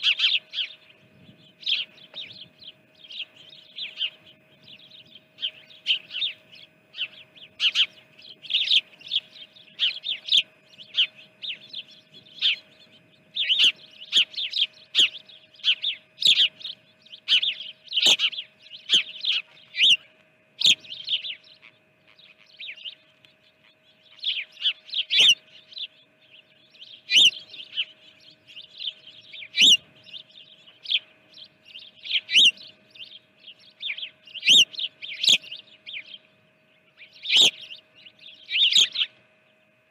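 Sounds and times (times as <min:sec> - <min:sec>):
faint steady hum: 0:00.0 - 0:39.9
small songbirds chirping: 0:00.0 - 0:39.9.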